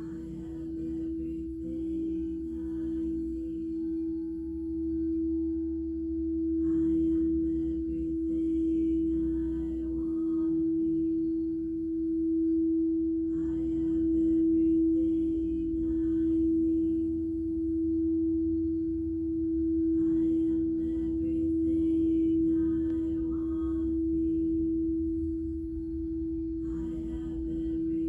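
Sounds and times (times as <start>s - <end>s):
singing bowl low tone: 0.0s - 28.0s.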